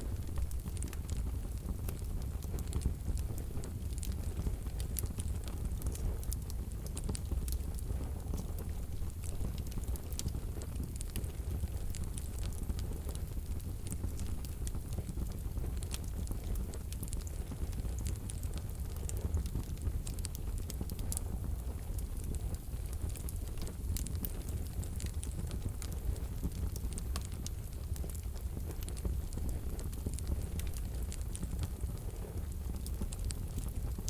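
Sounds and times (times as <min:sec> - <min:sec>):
burning wood crackling: 0:00.0 - 0:34.0
wood fire burning in stove: 0:00.0 - 0:34.0.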